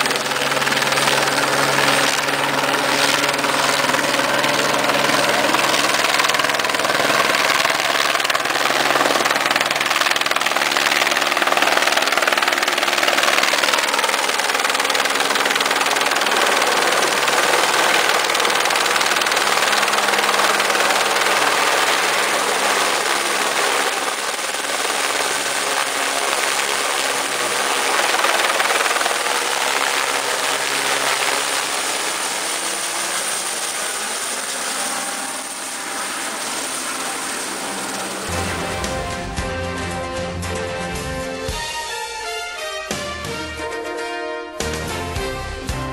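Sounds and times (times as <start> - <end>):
helicopter rotor chop: 0.0 - 42.0
helicopter engine whine: 0.0 - 45.9.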